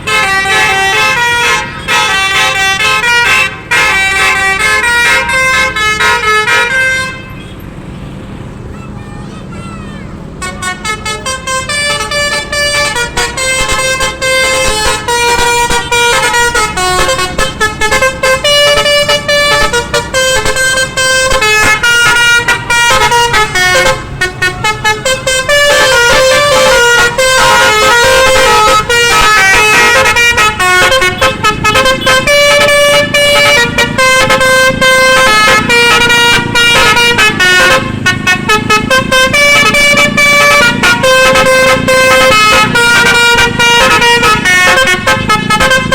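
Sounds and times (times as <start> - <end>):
multi-note musical bus horn: 0.0 - 7.7, 9.0 - 45.9.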